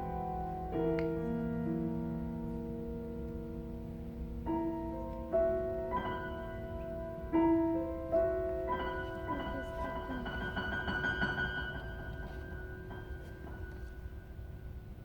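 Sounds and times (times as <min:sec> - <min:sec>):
solo piano classical piece: 0:00.0 - 0:15.0.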